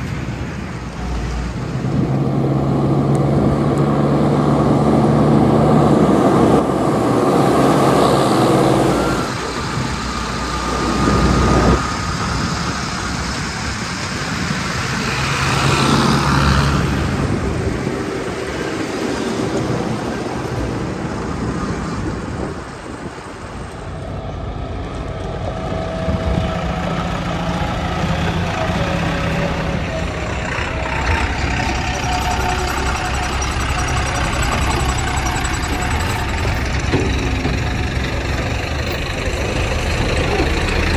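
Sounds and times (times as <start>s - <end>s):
backhoe loader diesel engine: 0.0s - 40.9s
tractors and tipper truck engines: 0.0s - 40.9s.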